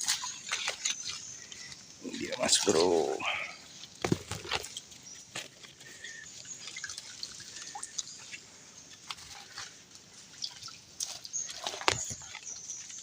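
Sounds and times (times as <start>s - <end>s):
water dripping: 0.0s - 3.5s, 6.0s - 13.0s.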